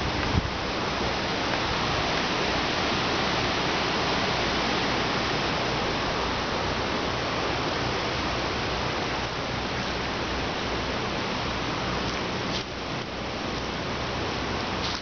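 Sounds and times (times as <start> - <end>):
river roaring: 0.0 - 15.0.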